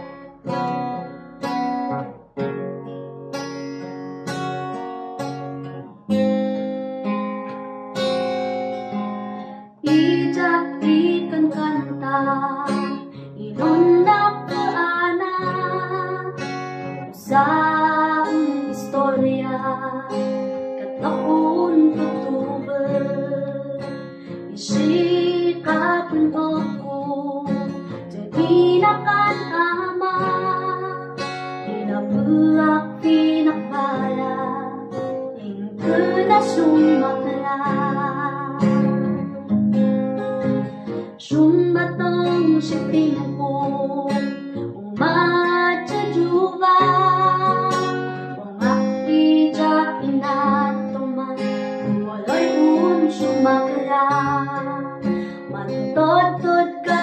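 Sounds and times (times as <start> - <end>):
acoustic guitar chords: 0.0 - 57.0
woman singing: 8.8 - 39.6, 40.9 - 57.0.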